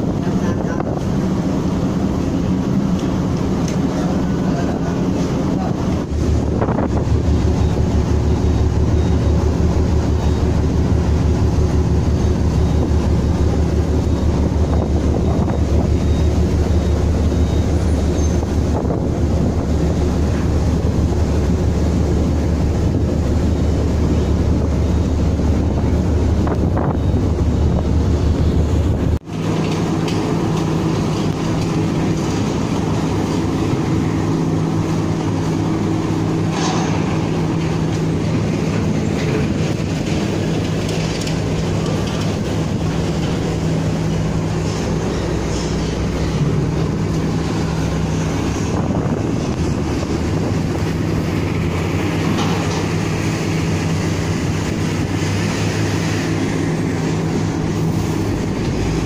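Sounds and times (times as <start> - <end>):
diesel engines droning: 0.0 - 59.0
machinery hum with higher tones: 0.0 - 59.0.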